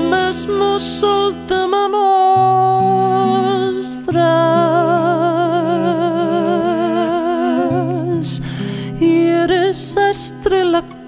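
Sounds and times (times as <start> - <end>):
person singing long notes: 0.0 - 11.0.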